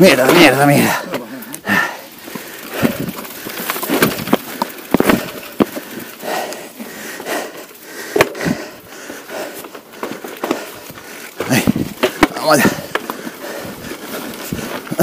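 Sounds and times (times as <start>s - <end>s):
bike rattling and knocking: 0.0s - 15.0s
tyres crunching over stones: 0.0s - 15.0s.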